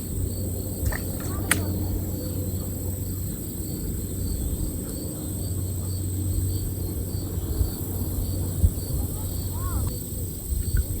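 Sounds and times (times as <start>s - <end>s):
insects chirping: 0.0s - 11.0s
steady low rumble: 0.0s - 11.0s.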